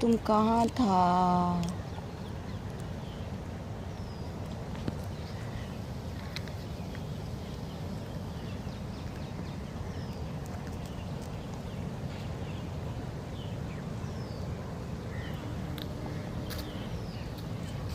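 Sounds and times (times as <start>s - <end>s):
small birds chirping: 0.0s - 17.9s
steady low rumble: 0.0s - 17.9s.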